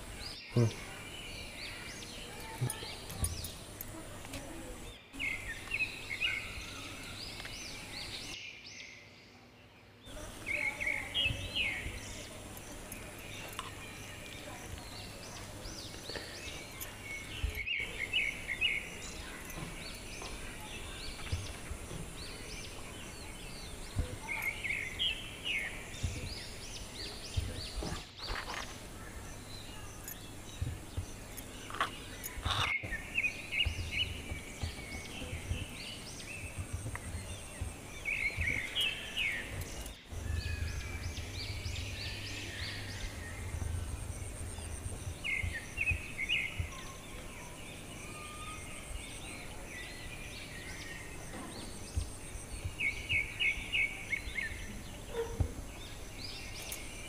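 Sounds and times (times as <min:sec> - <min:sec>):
birds chirping: 0:00.0 - 0:57.0
outdoor background hiss: 0:00.0 - 0:57.0.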